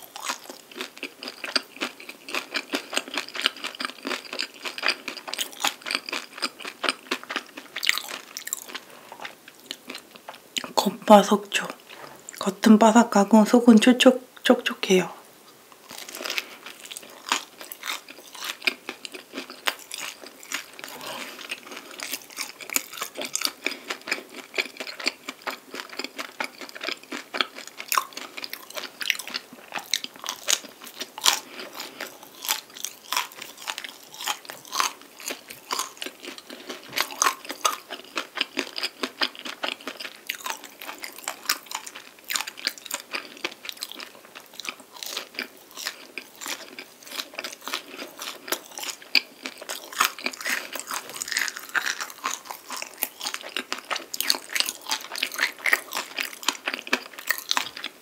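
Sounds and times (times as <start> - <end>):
crunchy pastry chewing: 0.0 - 10.7, 15.8 - 58.0.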